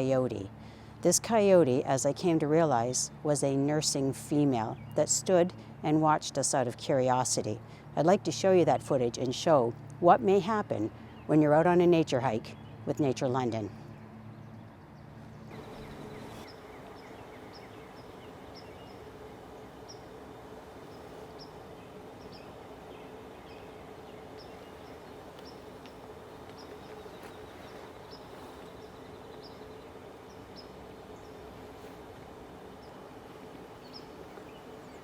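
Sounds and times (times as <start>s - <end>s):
low hum and hiss: 0.0s - 35.0s.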